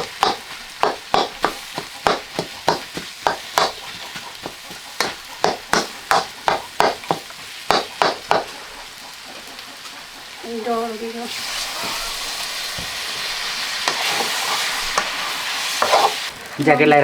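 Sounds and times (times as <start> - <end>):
spoon scraping and stirring in a pan: 0.0 - 10.4, 11.3 - 16.4
curry sizzling: 0.0 - 17.0.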